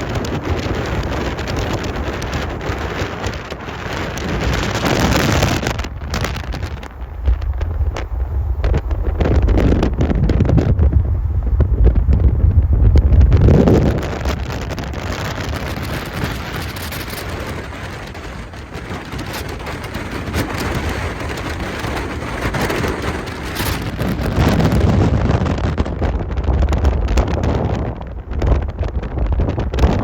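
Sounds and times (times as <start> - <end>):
train rattles and clicks: 0.0 - 30.0.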